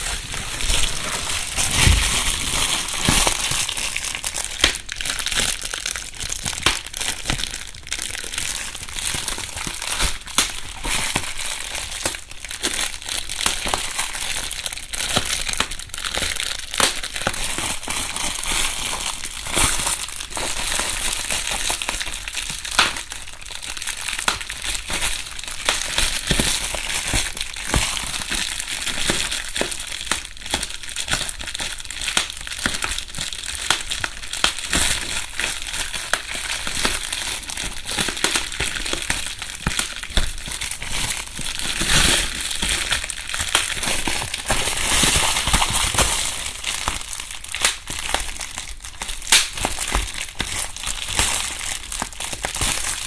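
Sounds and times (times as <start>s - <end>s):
bubble wrap crinkling and popping: 0.0s - 53.0s.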